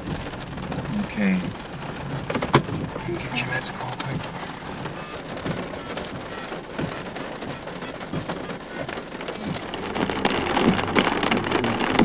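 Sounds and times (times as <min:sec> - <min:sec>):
rain on car windows and body: 0:00.0 - 0:12.0.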